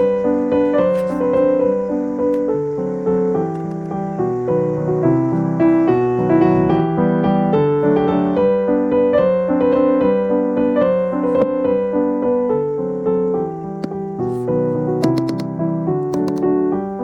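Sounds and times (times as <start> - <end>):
light piano music: 0.0 - 17.0.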